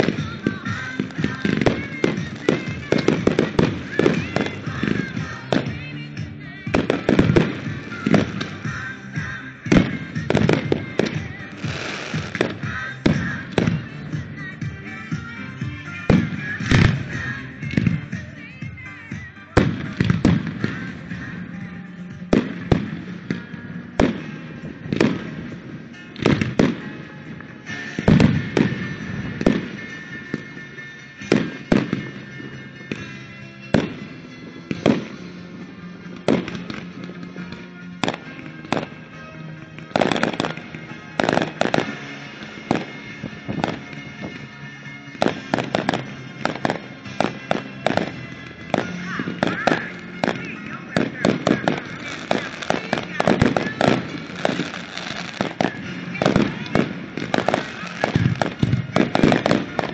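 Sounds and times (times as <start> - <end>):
disco music: 0.0 - 59.9.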